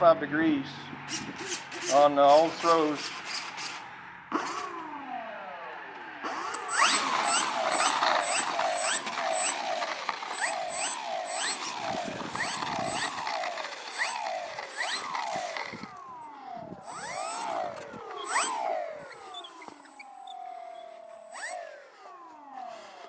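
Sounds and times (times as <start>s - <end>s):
servos whining: 0.0s - 23.0s.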